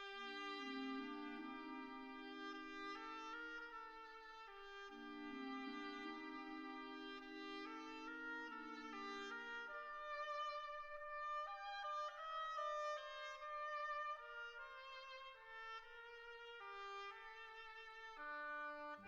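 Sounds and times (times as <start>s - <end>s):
instrumental music with held notes: 0.0s - 19.0s.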